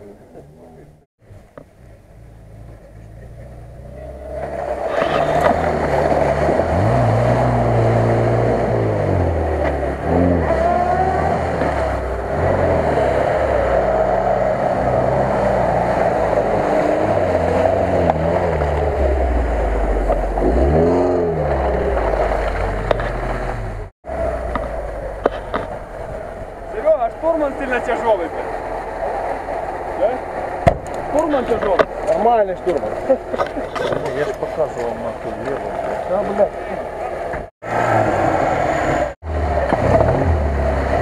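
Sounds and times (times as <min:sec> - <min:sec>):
car engine revving: 0:01.8 - 0:41.0.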